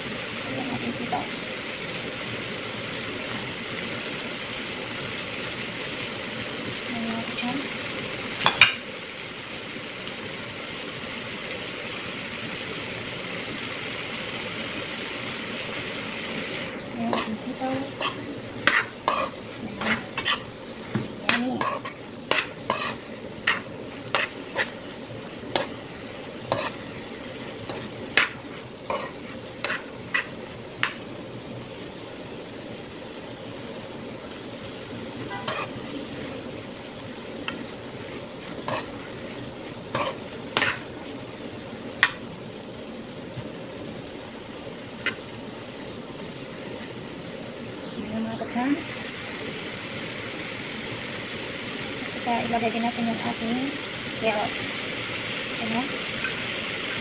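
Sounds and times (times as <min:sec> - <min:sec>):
food sizzling in pan: 0:00.0 - 0:57.0.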